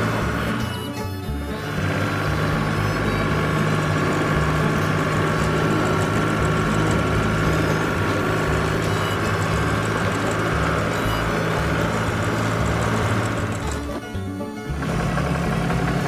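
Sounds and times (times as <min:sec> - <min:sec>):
heavy vehicle engine idling: 0:00.0 - 0:16.0.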